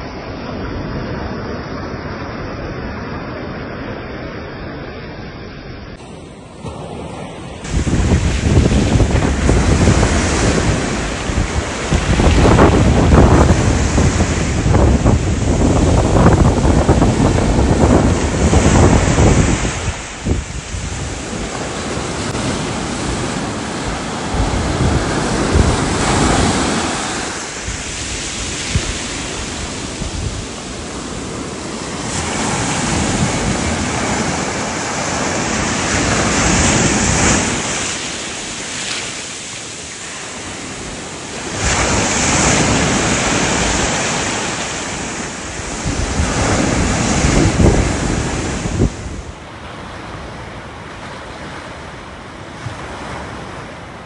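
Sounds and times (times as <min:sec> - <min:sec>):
ocean surf breaking on beach: 0:00.0 - 0:54.0.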